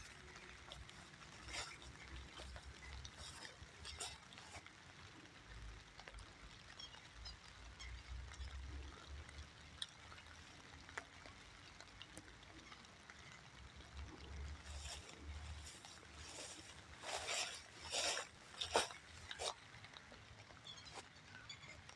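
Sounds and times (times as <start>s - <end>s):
light rain drips: 0.0s - 21.9s.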